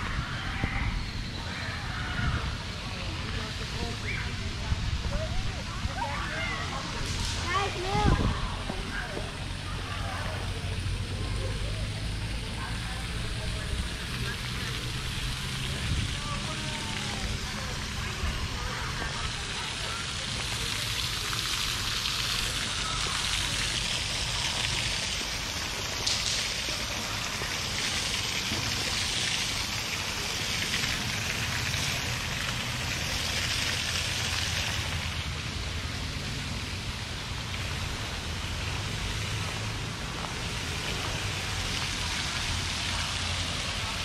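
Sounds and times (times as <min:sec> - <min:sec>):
water rushing over waterfall: 0:00.0 - 0:44.0.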